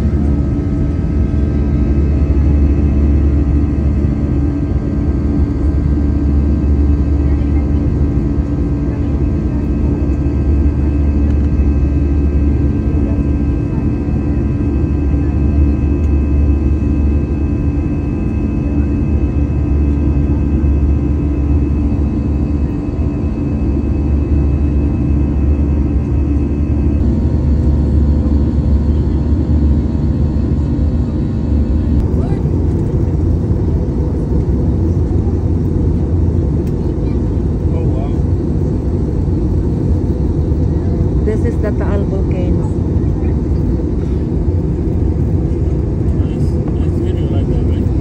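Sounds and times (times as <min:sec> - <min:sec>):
jet engine drone in cabin: 0:00.0 - 0:48.0.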